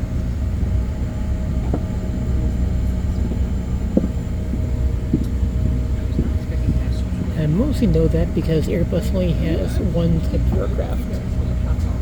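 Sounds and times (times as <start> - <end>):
jet engines taxiing rumble: 0.0 - 12.0.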